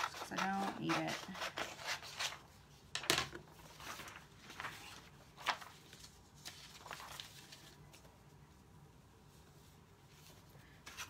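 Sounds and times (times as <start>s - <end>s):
paper sheets rustling: 0.0s - 8.4s, 9.3s - 11.0s.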